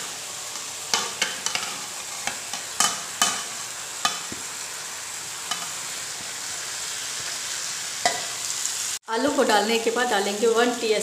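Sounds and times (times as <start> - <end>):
masala sizzling in a pan: 0.0 - 11.0.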